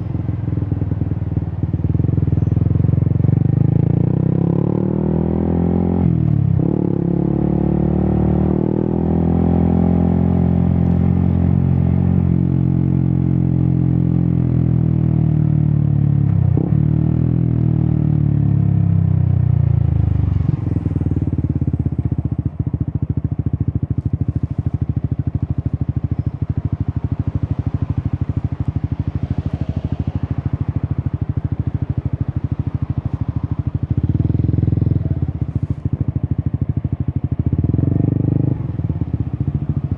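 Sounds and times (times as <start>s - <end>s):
motorcycle engine revving: 0.7s - 39.9s.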